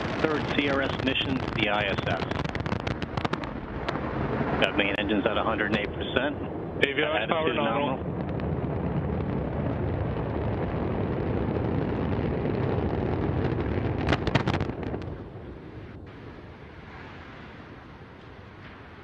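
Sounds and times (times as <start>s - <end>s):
sharp explosion cracks: 0.0s - 17.8s
deep rocket rumble: 0.0s - 19.0s.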